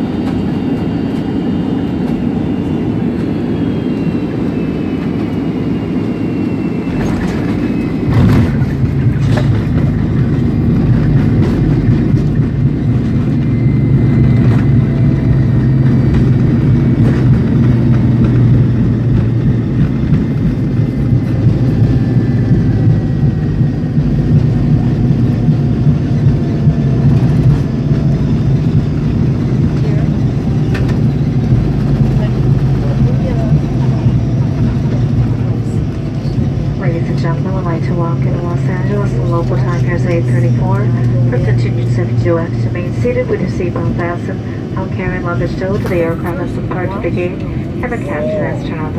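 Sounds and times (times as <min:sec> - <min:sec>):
jet engine and runway rumble: 0:00.0 - 0:48.9.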